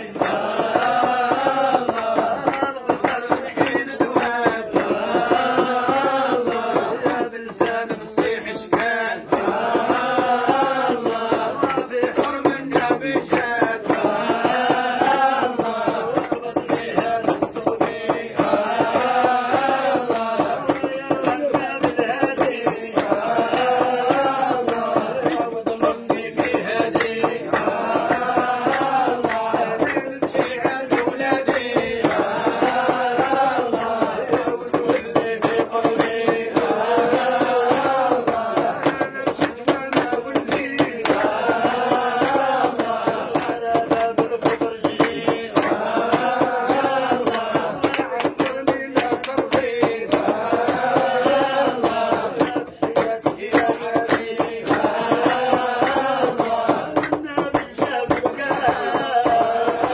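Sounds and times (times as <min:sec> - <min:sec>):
men chanting together: 0:00.0 - 0:59.9.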